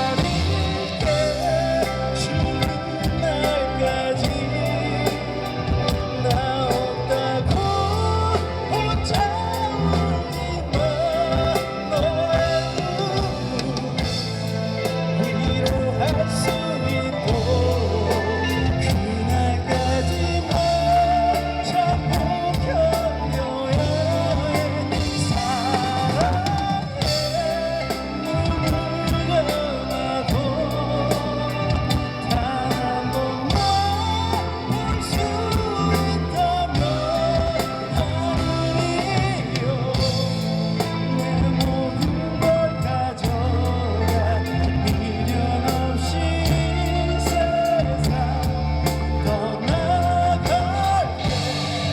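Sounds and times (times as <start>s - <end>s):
bending lead guitar melody: 0.0s - 51.9s
rock band playing a ballad: 0.0s - 51.9s.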